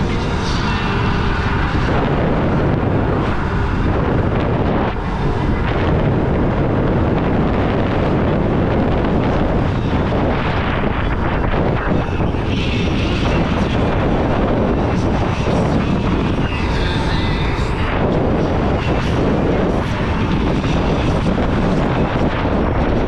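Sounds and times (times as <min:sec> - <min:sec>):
high whine: 0:00.0 - 0:23.0
wind rushing over microphone: 0:00.0 - 0:23.0.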